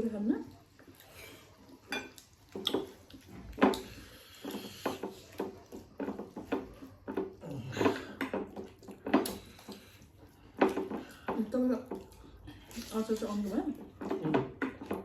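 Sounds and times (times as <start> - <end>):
chewing: 0.4 - 15.0.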